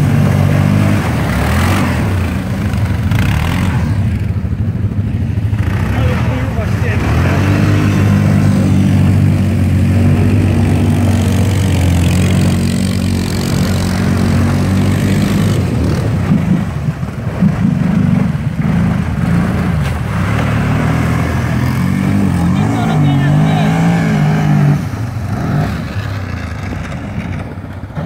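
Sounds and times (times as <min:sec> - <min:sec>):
atv engines revving: 0:00.0 - 0:28.0
wheels churning water and ice: 0:00.0 - 0:28.0.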